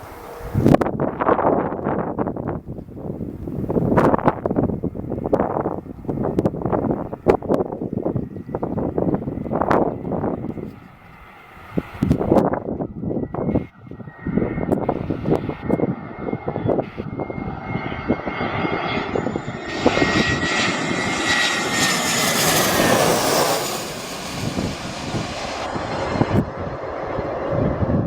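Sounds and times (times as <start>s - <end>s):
jet engines passing: 0.0s - 28.0s
high engine whine: 4.6s - 28.0s.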